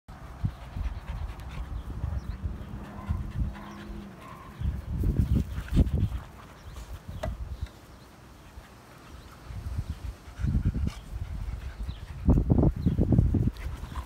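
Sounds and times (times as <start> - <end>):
dog panting: 0.1 - 7.2, 7.9 - 14.0.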